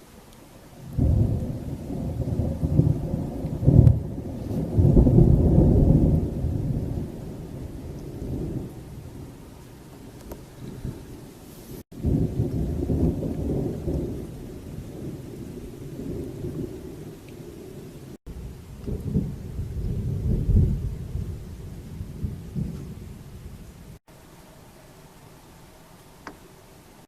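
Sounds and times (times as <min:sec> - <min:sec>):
faint rain hiss: 0:00.0 - 0:27.0
thunder rumbling: 0:00.7 - 0:24.0.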